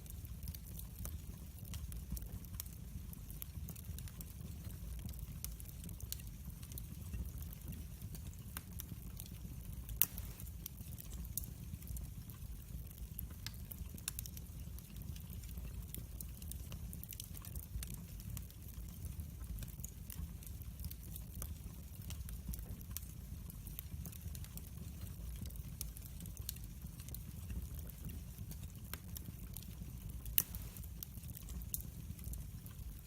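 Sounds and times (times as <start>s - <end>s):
burning logs crackling and popping: 0.0s - 33.0s
fire flames rumbling: 0.0s - 33.0s.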